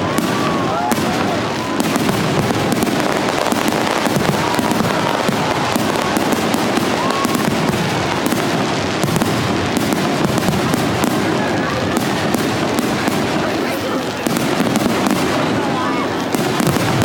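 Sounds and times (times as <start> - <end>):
fireworks crackling: 0.0 - 17.0
fireworks sharp reports: 0.0 - 17.0
fireworks whistles: 0.0 - 17.0.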